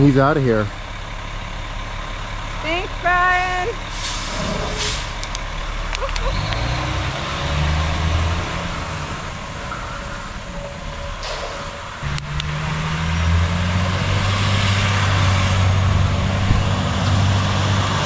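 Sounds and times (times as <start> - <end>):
truck engine pulling away: 0.0 - 18.0.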